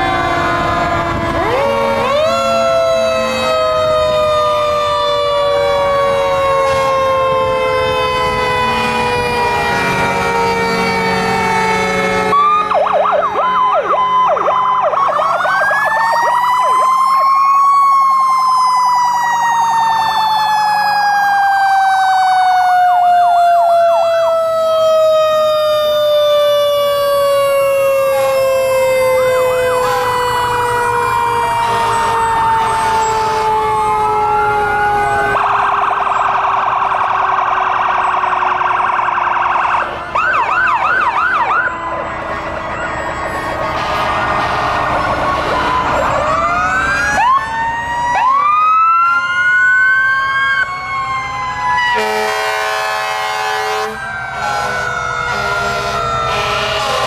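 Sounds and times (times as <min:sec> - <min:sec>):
siren winding up and down: 0:00.0 - 0:57.0
sirens yelping and wailing: 0:00.0 - 0:57.0.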